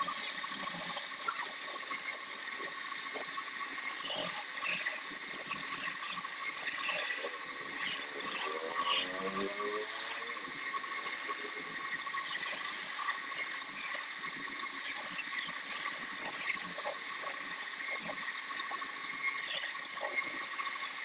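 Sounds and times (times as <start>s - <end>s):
wood lathe whine: 0.0s - 21.0s.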